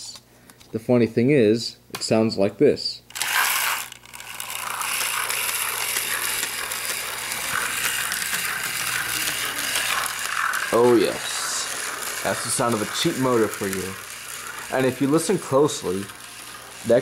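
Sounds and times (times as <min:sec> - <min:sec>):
toy train motor rattling: 0:03.1 - 0:17.0.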